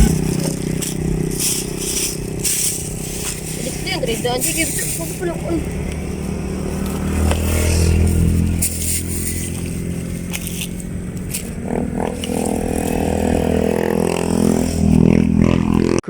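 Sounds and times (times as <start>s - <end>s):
vehicle engines droning: 0.0s - 16.0s.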